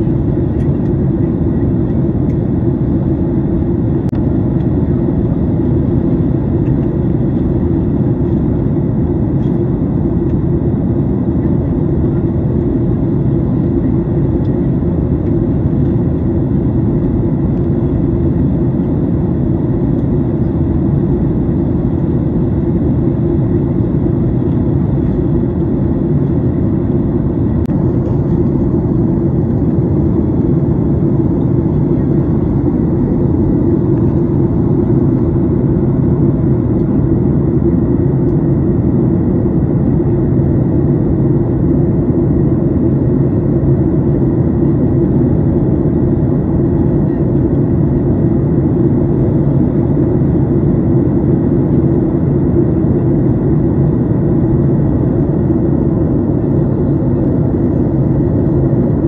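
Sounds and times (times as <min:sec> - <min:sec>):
airflow over fuselage: 0:00.0 - 0:59.0
jet engines in airplane cabin: 0:00.0 - 0:59.0.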